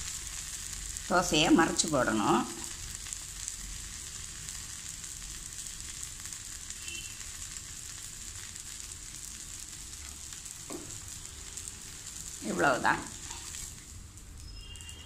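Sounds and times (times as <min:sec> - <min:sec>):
batter sizzling on griddle: 0:00.0 - 0:15.0.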